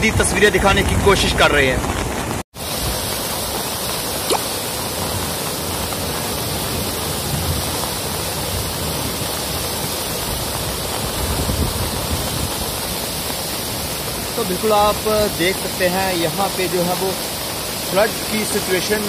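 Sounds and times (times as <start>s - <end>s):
flooded stream rushing: 0.0s - 19.0s.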